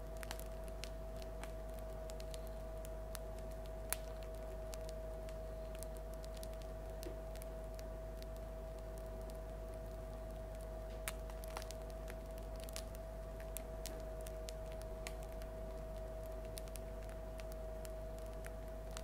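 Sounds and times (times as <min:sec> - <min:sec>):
bread crust crackling: 0:00.0 - 0:19.0
faint steady hum: 0:00.0 - 0:19.0.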